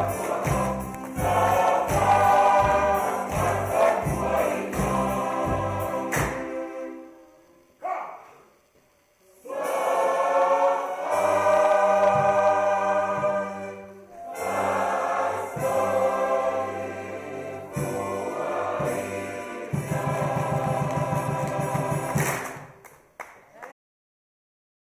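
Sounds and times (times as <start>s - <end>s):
choir singing chords: 0.0s - 8.6s, 9.2s - 22.8s.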